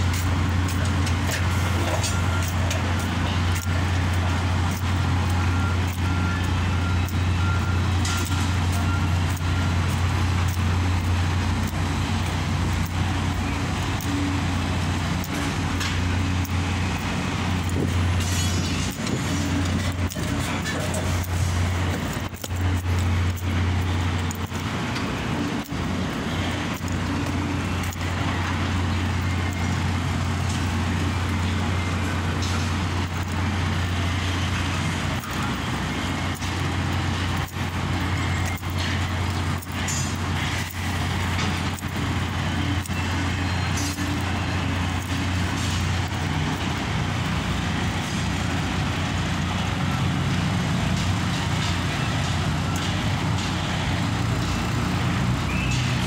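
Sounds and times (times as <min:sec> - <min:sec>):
heavy machinery drone: 0:00.0 - 0:56.0.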